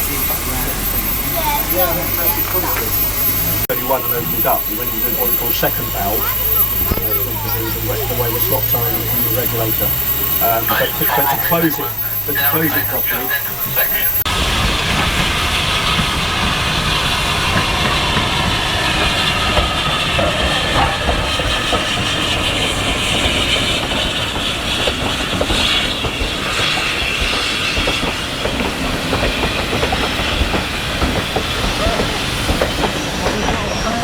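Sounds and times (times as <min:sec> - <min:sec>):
clickety-clack of rail joints: 0:00.0 - 0:34.0
hiss: 0:00.0 - 0:34.0
train wheels rumbling: 0:00.0 - 0:34.0.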